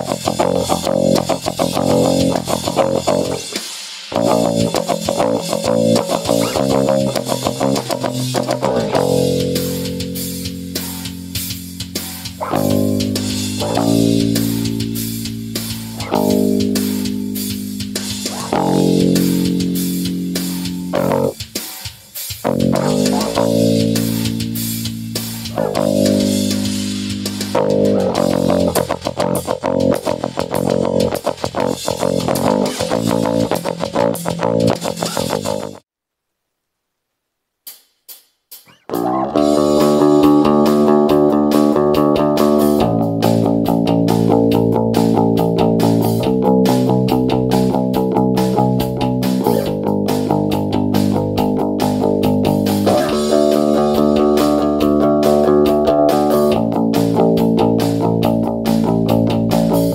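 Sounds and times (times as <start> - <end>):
electric bass played fingerstyle: 0.0 - 35.8, 38.7 - 59.9.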